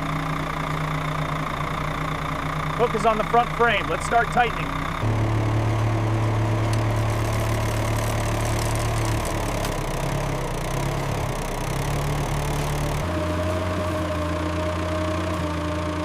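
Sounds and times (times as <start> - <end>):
winch motor drone: 0.0 - 16.0.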